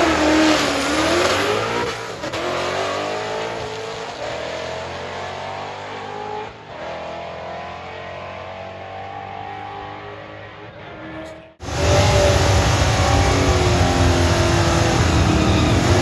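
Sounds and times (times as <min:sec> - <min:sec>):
drag car engine at full throttle: 0:00.0 - 0:16.0.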